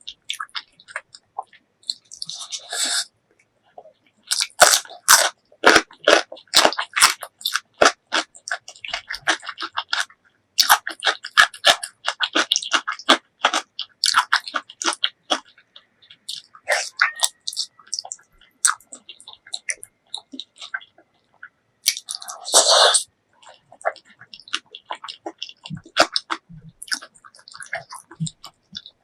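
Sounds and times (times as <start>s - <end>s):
wet chewing with crunchy clicks: 0.0s - 29.0s.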